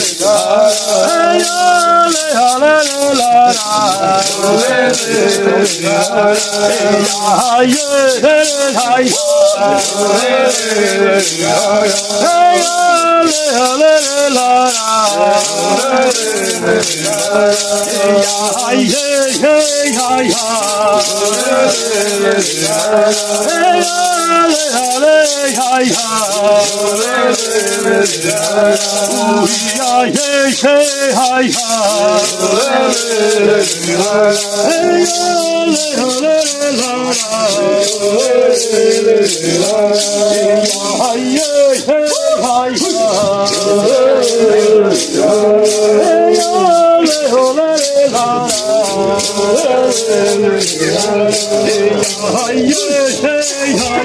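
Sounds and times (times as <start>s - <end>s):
hand rattles shaken: 0.0s - 54.0s
voices singing a chant: 0.0s - 54.0s.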